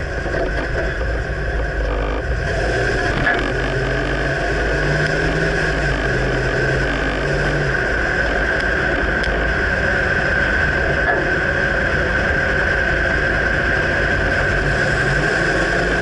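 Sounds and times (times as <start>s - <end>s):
pickup truck running rumble: 0.0s - 16.0s.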